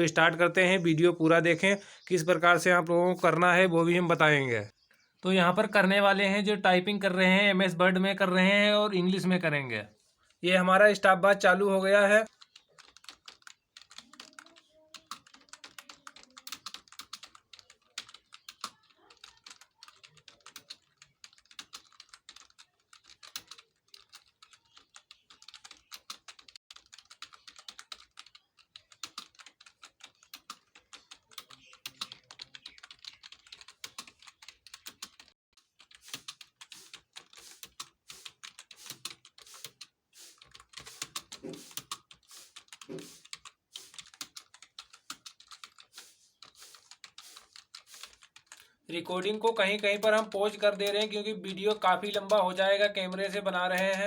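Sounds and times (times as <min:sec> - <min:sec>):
fast keyboard typing: 0:00.0 - 0:54.0.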